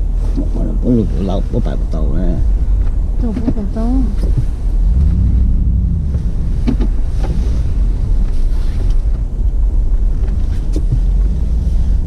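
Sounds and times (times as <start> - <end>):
vehicle engine driving slowly: 0.0 - 12.0.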